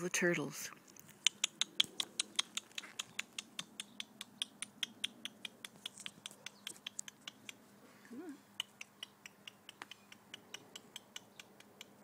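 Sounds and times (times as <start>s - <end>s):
person clicking rapidly: 1.2s - 7.6s, 8.6s - 12.0s.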